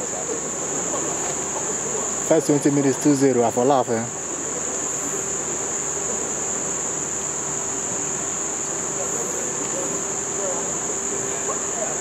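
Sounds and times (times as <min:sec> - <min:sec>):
faint distant voices: 0:00.0 - 0:12.0
insect chorus: 0:00.0 - 0:12.0.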